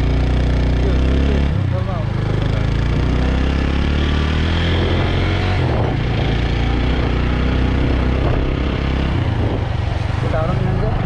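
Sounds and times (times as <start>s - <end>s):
motorbike engine running: 0.0s - 9.7s.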